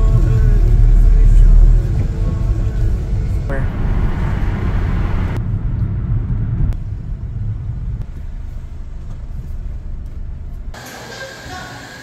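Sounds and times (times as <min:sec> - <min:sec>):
car cabin road rumble: 0:00.0 - 0:10.8.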